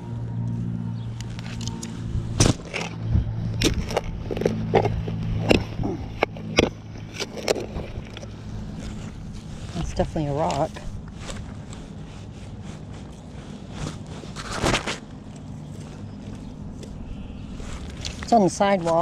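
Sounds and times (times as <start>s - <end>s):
low engine hum: 0.0s - 19.0s
tools knocking and scraping soil: 1.2s - 17.0s, 17.6s - 19.0s.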